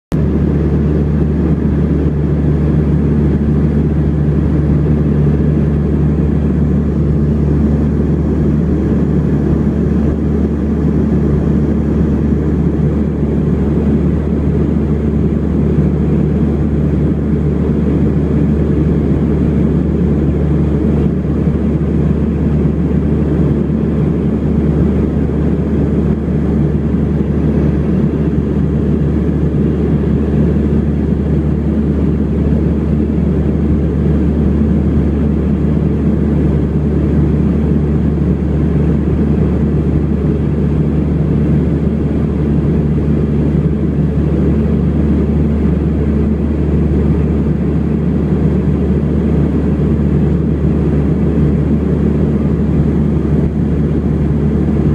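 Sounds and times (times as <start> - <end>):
turboprop engines droning: 0.1 - 54.9.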